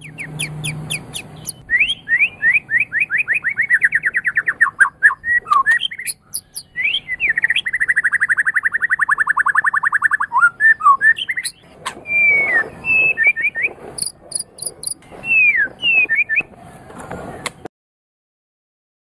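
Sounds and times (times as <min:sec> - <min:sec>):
songbird singing: 0:00.0 - 0:16.5.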